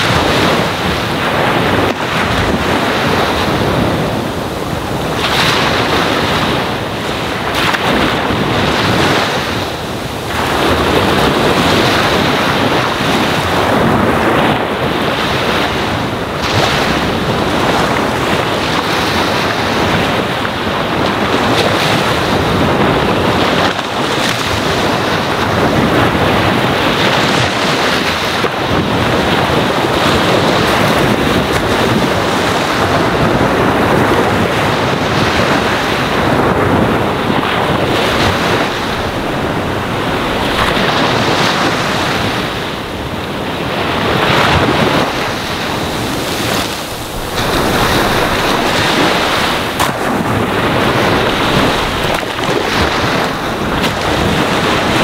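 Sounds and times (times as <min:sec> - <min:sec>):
ocean waves on sandy shore: 0:00.0 - 0:55.0.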